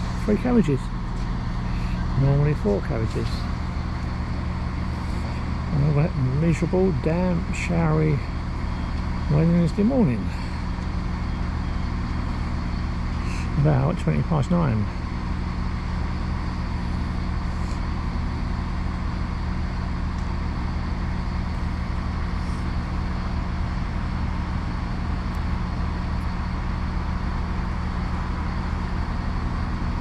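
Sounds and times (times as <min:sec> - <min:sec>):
train engine idling: 0:00.0 - 0:30.0.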